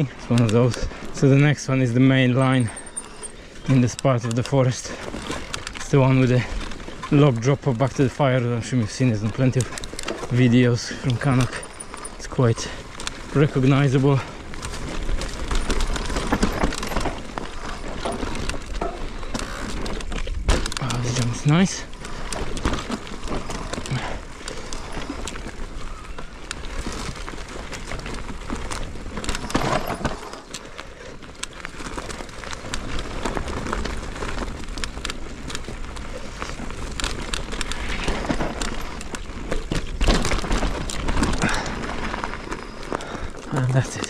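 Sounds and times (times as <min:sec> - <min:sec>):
bike rattling over bumps: 0:00.0 - 0:44.0
bike tyres rolling over dirt: 0:00.0 - 0:44.0.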